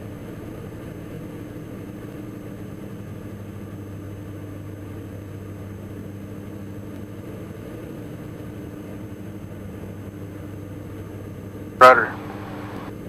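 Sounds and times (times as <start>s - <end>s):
aircraft engines and propellers droning: 0.0s - 13.0s.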